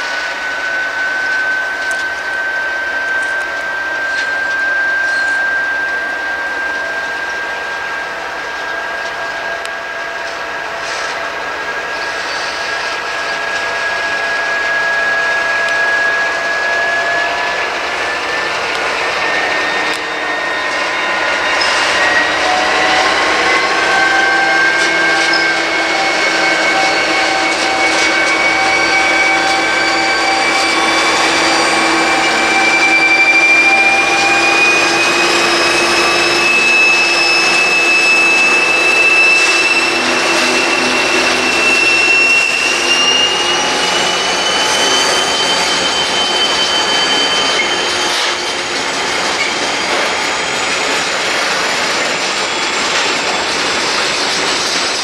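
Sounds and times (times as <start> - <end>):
diesel locomotive working hard: 0.0 - 55.0
turbocharger whine: 0.0 - 55.0.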